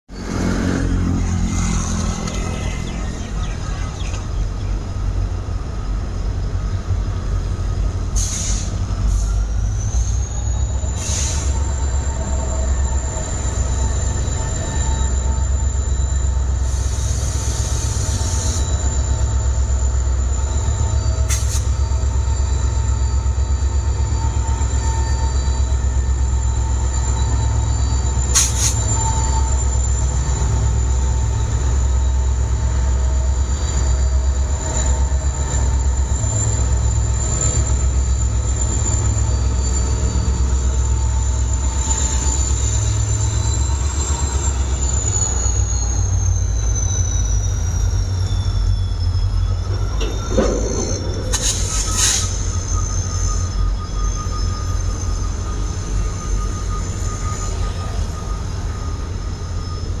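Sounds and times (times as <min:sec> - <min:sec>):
high whine: 0:00.1 - 0:07.1, 0:18.0 - 1:00.0
diesel locomotive engine humming: 0:00.1 - 1:00.0.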